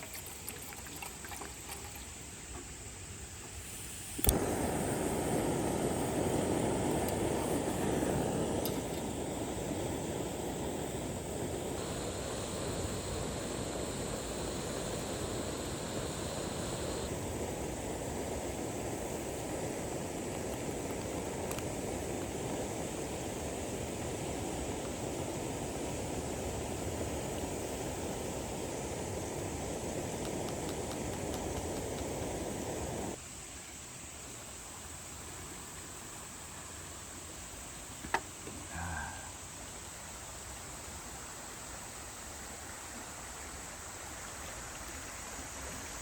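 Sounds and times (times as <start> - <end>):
camping stove burning with hiss: 0.0 - 46.0.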